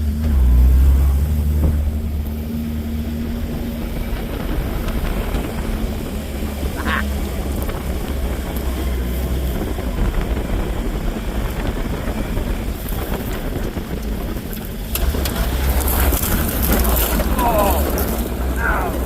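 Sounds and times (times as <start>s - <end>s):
off-road vehicle engine droning: 0.0s - 19.0s
wind noise on microphone: 0.0s - 19.0s.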